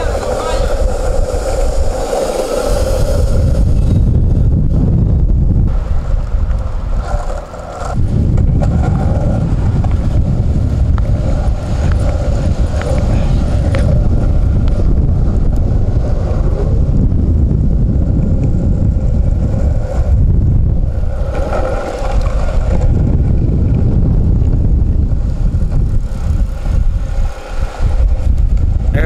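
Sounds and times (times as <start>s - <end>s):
skate wheels rolling on asphalt: 0.0s - 29.0s
wind buffeting microphone: 0.0s - 29.0s.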